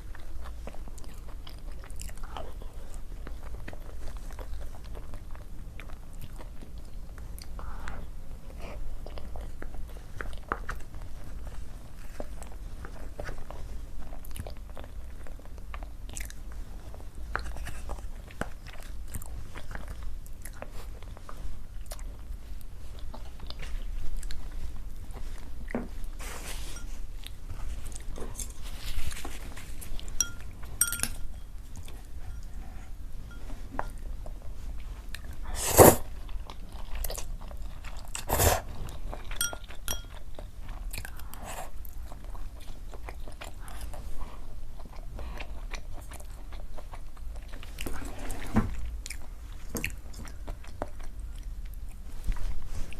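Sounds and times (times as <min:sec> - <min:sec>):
person chewing crunchy food: 0:00.0 - 0:52.9.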